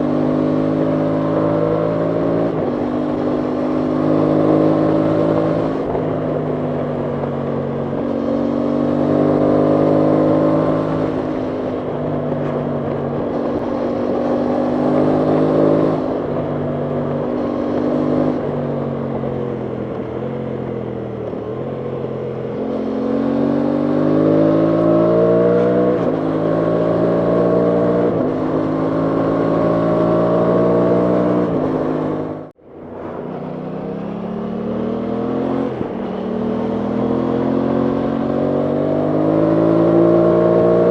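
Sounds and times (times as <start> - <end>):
motorcycle engine revving through gears: 0.0 - 40.9.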